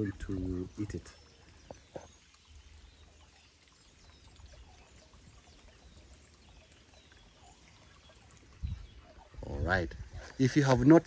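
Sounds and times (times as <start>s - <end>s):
faint water trickle: 0.0s - 11.0s.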